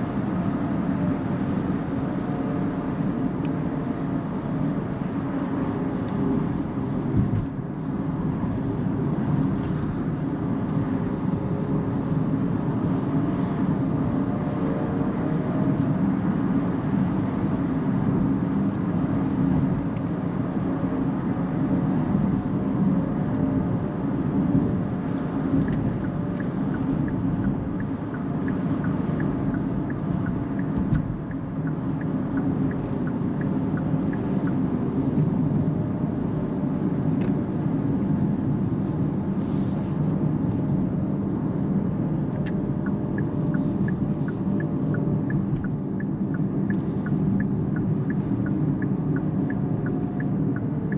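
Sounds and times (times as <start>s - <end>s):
tyre and road noise rumble: 0.0s - 50.9s.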